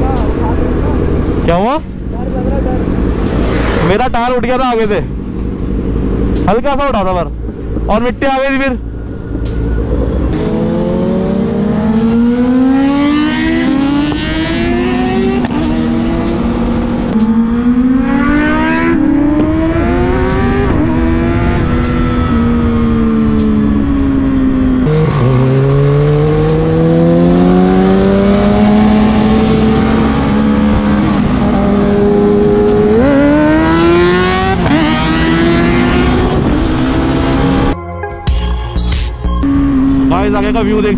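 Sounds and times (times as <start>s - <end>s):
motorcycle engine accelerating: 0.0s - 37.8s, 38.8s - 40.9s.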